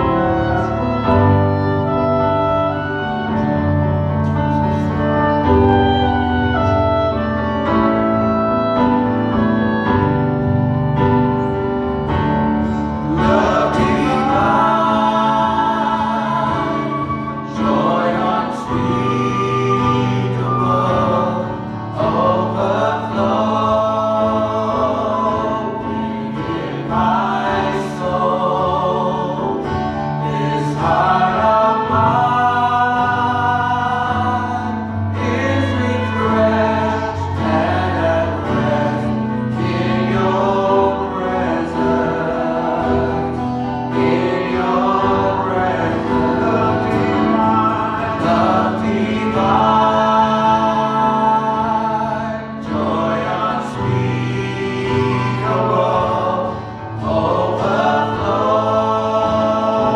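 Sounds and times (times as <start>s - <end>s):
voices singing with vibrato: 0.0s - 59.9s.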